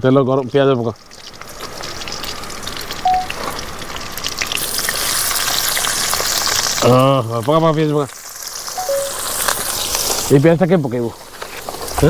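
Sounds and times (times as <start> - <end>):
hot oil sizzling and spitting: 0.0 - 12.0.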